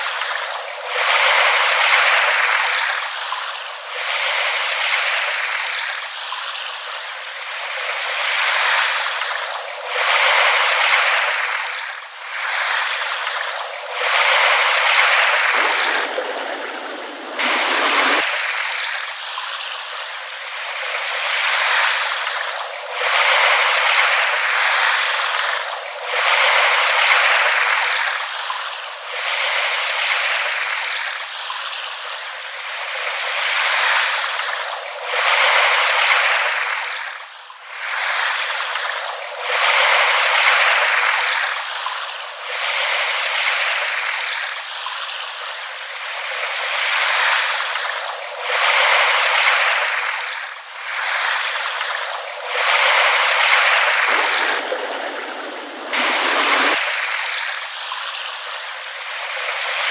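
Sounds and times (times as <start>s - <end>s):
small waves lapping on shore: 0.0s - 59.9s.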